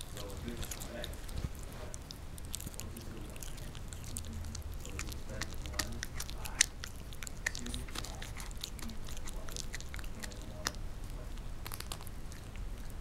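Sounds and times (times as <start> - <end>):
puppy gnawing on bone: 0.0 - 13.0.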